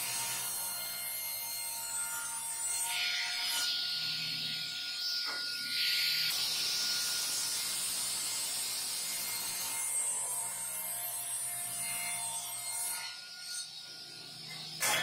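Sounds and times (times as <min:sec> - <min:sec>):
table saw blade cutting wood: 0:00.0 - 0:15.0.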